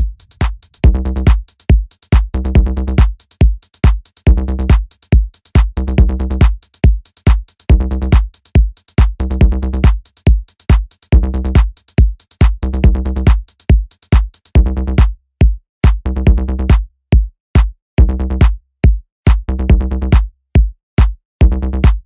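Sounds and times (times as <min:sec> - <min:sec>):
electronic music with drum beat: 0:00.0 - 0:22.0.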